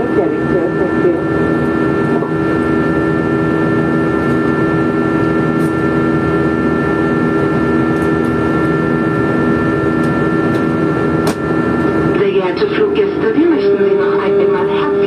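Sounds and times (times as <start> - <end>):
airliner cabin engine rush: 0.0 - 15.0
constant tonal hum: 0.0 - 15.0.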